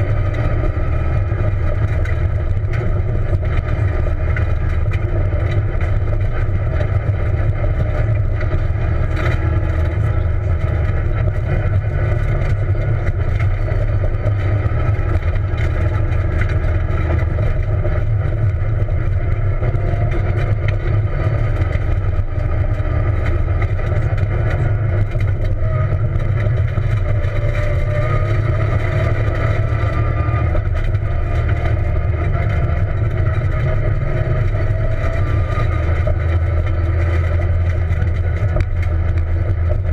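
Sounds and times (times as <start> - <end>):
car engine running hard: 0.0 - 39.9
tyre rumble on dirt road: 0.0 - 39.9.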